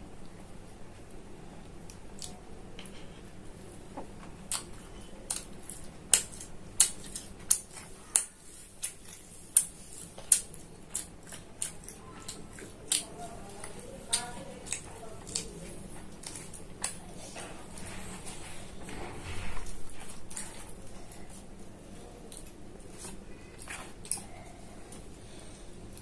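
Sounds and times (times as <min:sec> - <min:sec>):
close chewing: 0:01.0 - 0:26.0.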